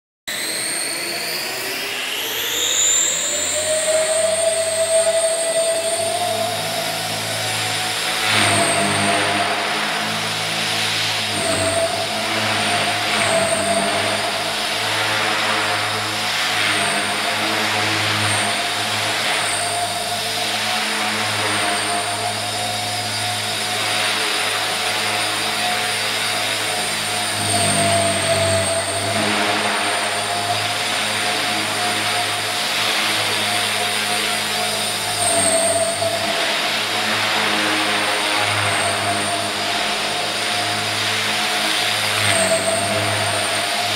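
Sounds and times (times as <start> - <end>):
helicopter rotor noise: 0.3 - 43.9
model helicopter motor whine: 0.3 - 43.9.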